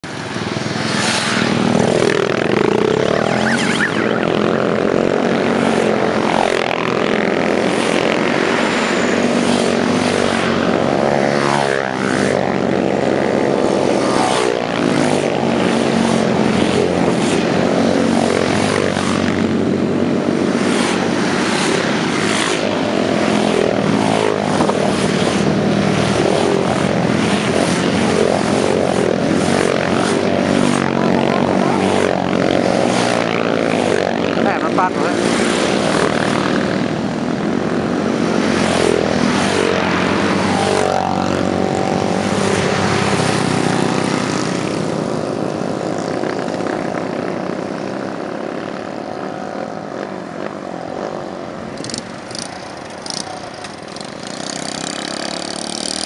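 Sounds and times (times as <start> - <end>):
small motorcycle engine running: 0.0 - 56.0.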